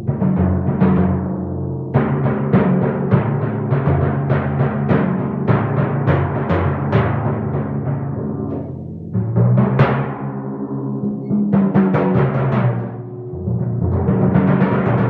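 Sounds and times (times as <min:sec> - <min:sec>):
timpani strokes: 0:00.0 - 0:15.0.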